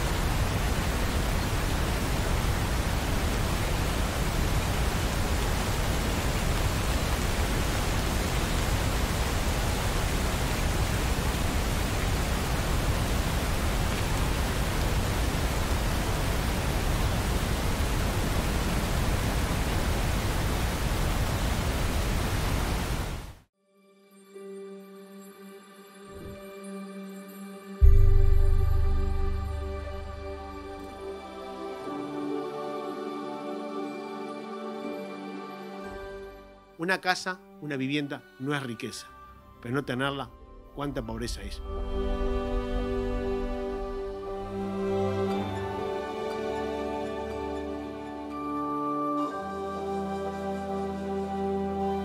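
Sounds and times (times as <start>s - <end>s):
steady rain hiss: 0.0s - 23.5s, 27.8s - 35.8s, 40.1s - 52.0s.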